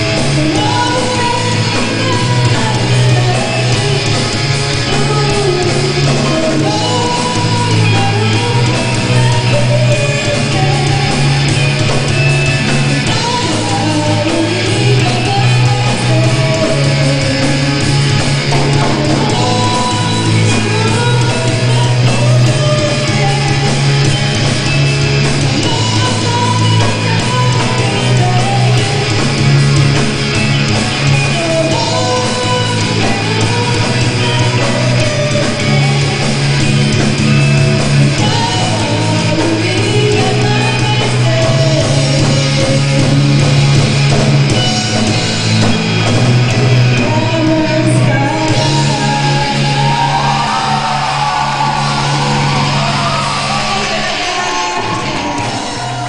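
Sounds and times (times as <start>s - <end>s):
lead singer: 0.0s - 56.0s
rock band playing live: 0.0s - 56.0s.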